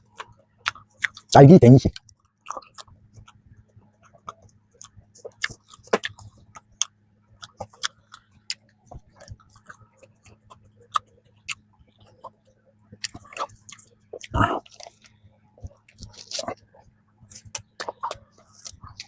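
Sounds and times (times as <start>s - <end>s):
crunchy pastry chewing: 0.0s - 19.0s
faint low hum: 0.0s - 19.0s.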